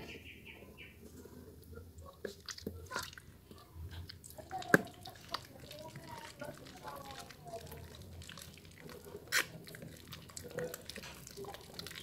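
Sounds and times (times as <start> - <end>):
wet soap squishing: 1.6 - 12.0.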